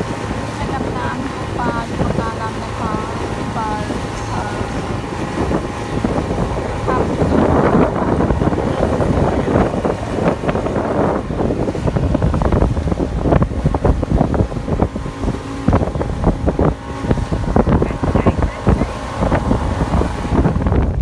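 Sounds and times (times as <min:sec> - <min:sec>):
motorboat engine: 0:00.0 - 0:21.0
wind and water rushing: 0:00.0 - 0:21.0
wind buffeting microphone: 0:00.0 - 0:21.0.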